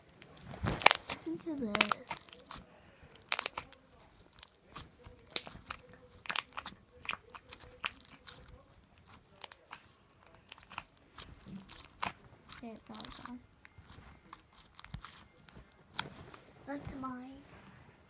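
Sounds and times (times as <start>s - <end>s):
slime crackling and popping: 0.0s - 17.6s.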